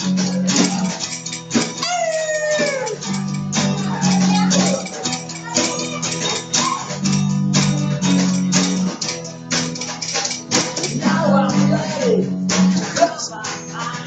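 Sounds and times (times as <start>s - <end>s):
electric bass guitar: 0.0s - 14.0s
steady percussive beat: 0.0s - 14.0s.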